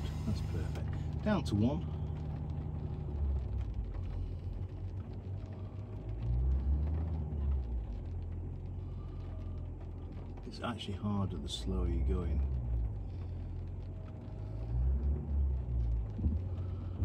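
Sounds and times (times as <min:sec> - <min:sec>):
car engine idling low hum: 0:00.0 - 0:17.0.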